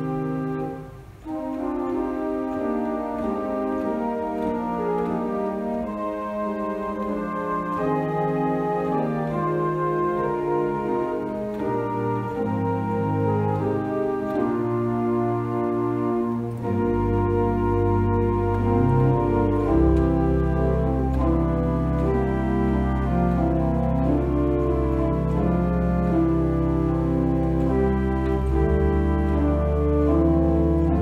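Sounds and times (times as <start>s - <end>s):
church organ chords: 0.0s - 31.0s
deep organ pedal bass notes: 0.0s - 31.0s.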